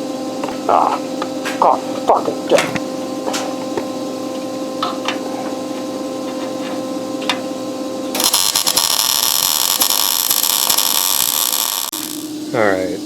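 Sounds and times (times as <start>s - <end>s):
harsh metalworking tool running: 0.0s - 12.5s
steady hum: 0.0s - 13.0s.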